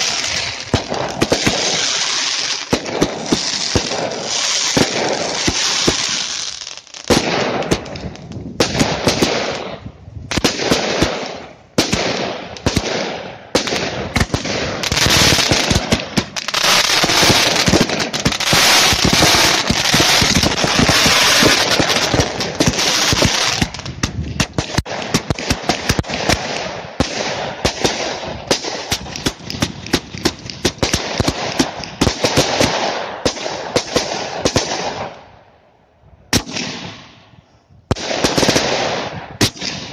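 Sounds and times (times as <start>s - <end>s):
fireworks launches and bangs: 0.0s - 35.1s, 37.9s - 39.9s
fireworks crackling bursts: 0.0s - 35.2s, 37.9s - 39.9s.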